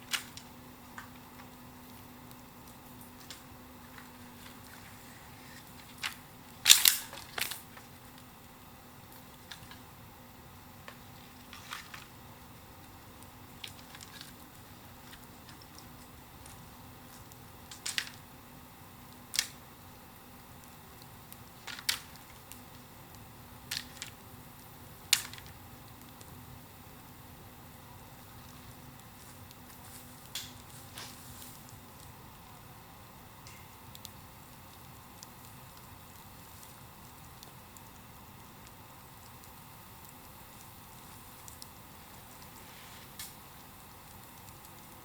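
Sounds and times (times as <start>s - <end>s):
bonfire crackling and popping: 0.0s - 45.0s
faint steady hiss: 0.0s - 45.0s.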